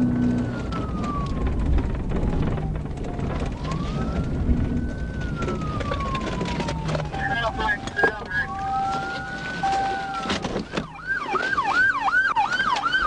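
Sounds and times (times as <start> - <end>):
car engine: 0.0 - 13.0
police siren wailing: 0.0 - 13.0
road noise: 0.0 - 13.0.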